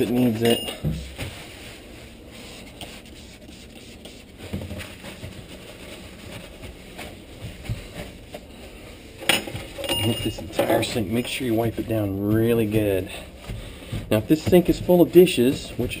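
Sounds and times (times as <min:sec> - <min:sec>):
paper towel rubbing: 0:01.0 - 0:09.2, 0:10.8 - 0:16.0.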